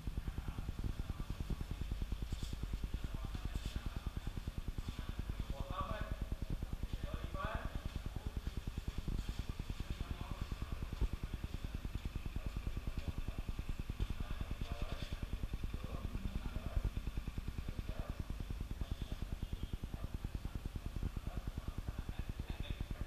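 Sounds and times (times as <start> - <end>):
faint distant voices: 0.0 - 23.0
machine throbbing: 0.0 - 23.0.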